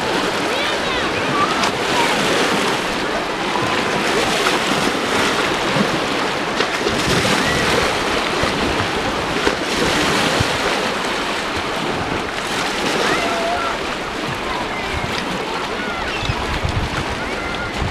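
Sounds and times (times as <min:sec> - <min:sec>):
water lapping on boulders: 0:00.0 - 0:17.9
wind buffeting microphone: 0:00.0 - 0:17.9.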